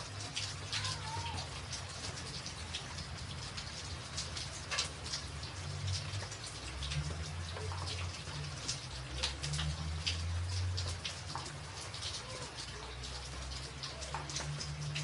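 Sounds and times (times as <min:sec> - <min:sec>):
rain on a tin roof: 0:00.0 - 0:15.0.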